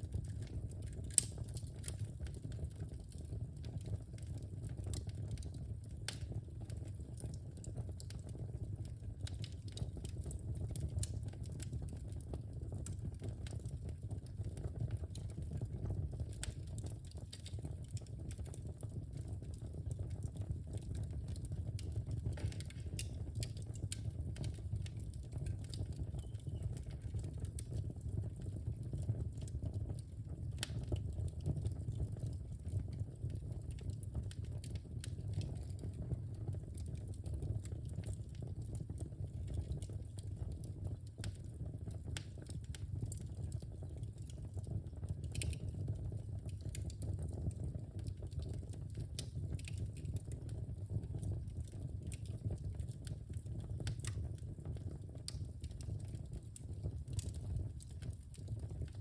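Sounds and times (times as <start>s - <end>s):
fire rumbling: 0.0s - 59.0s
logs crackling and popping: 0.0s - 59.0s.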